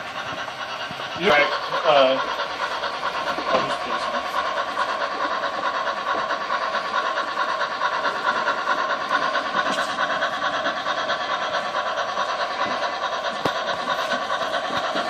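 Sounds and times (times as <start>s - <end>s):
model train steam chuffing: 0.0s - 15.0s
wheels clicking on track: 0.0s - 15.0s.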